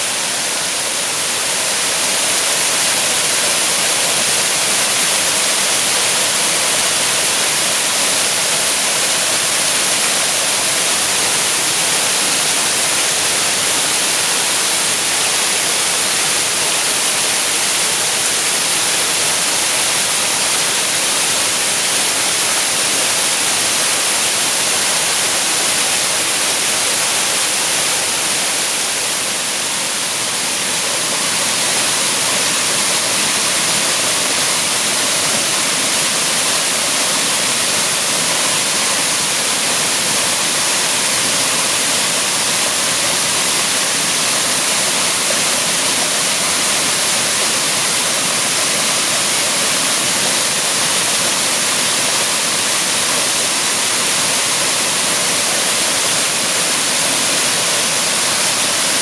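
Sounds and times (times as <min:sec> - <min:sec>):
waterfall pouring: 0:00.0 - 0:59.0.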